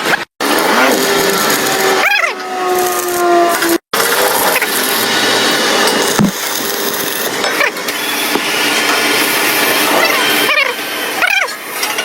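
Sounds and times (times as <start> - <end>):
arc welding crackling: 0.0 - 11.9.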